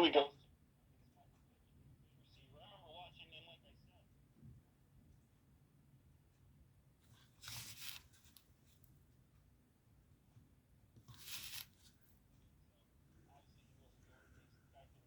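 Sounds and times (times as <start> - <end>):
faint radio hiss: 0.0 - 10.0, 10.7 - 15.0.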